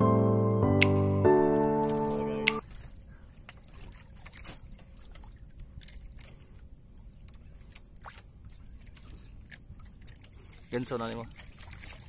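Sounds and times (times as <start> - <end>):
water sloshing around boat: 1.4 - 12.0.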